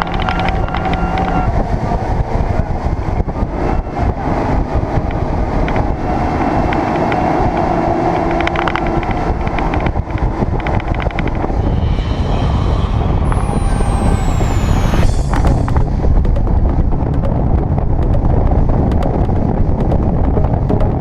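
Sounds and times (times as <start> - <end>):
boat engine drone: 0.0 - 21.0
wind buffeting microphone: 0.0 - 21.0.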